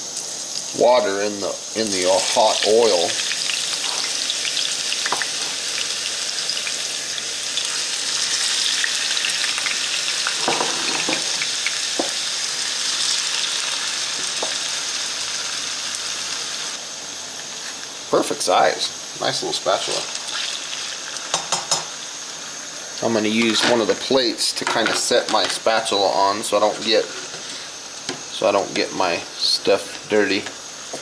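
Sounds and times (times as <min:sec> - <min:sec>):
potatoes sizzling in oil: 0:00.0 - 0:31.0.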